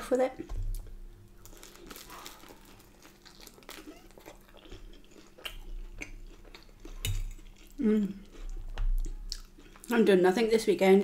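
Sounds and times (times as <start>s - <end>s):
chewing baked potato: 0.7s - 10.1s.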